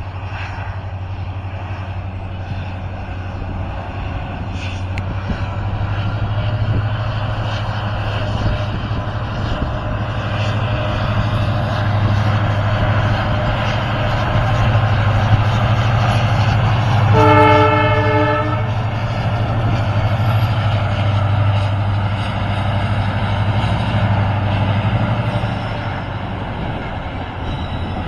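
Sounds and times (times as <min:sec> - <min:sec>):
train approaching rumble: 0:00.0 - 0:28.0.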